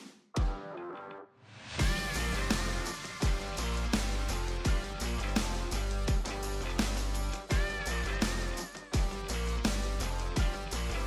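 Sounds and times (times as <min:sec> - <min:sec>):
background music with a beat: 0:00.0 - 0:00.9, 0:01.7 - 0:11.0.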